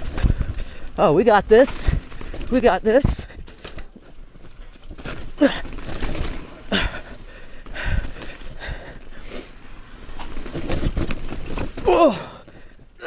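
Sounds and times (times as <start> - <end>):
mountain bike rattling over rocks: 0.0 - 13.0.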